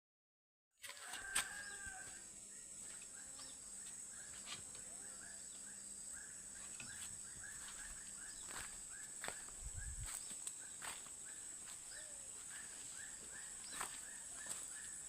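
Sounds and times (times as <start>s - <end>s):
faint bird chirping: 1.5s - 15.0s.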